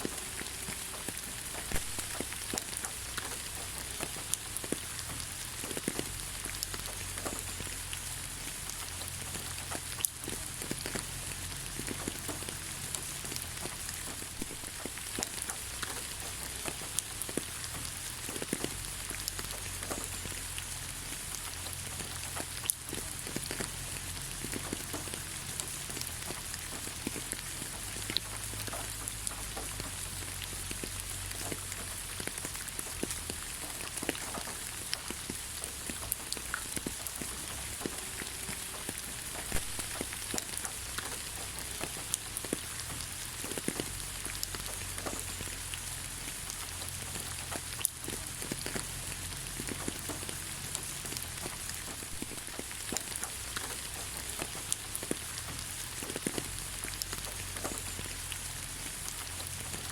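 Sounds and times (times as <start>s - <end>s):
rain falling on ground: 0.0s - 59.9s.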